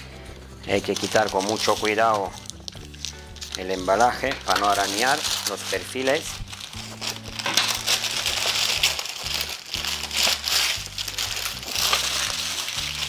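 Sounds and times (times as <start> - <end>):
background music with bass: 0.0 - 13.0
paper packaging rustling: 0.7 - 13.0.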